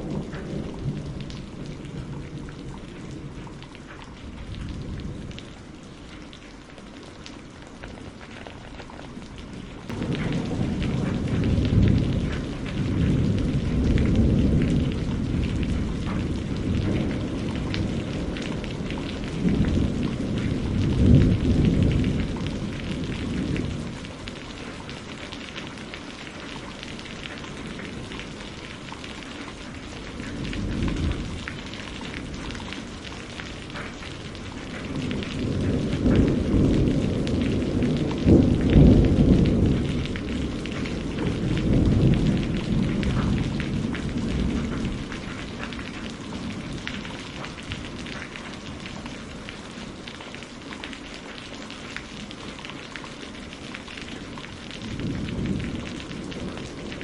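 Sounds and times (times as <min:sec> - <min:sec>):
low rolling thunder: 0:00.0 - 0:05.6, 0:09.5 - 0:50.0, 0:53.7 - 0:57.0
rain patter: 0:00.0 - 0:57.0.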